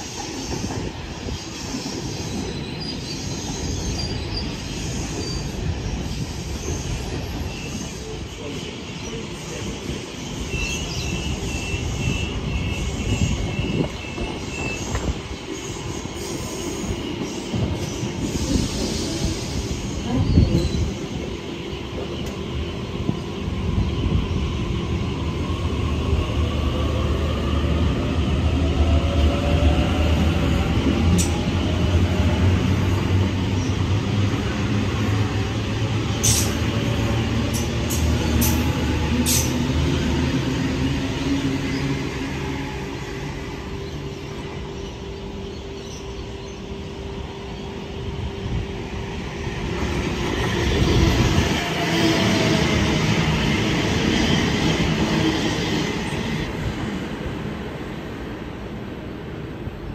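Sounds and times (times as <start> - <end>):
wheels squeaking on rail: 0.0 - 26.3, 27.7 - 57.0
rising train whine: 0.0 - 59.9
train low drone: 0.0 - 59.9.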